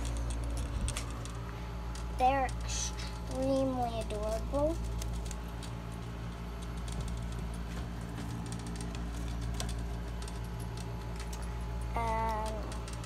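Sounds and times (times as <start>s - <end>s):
light clicking and scratching: 0.0s - 13.0s
steady low hum: 0.0s - 13.0s.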